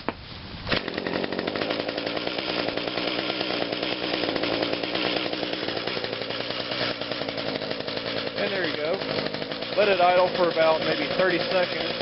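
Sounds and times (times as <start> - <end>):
starter cord pull: 0.7 - 12.0
two-stroke engine rattling: 0.7 - 12.0.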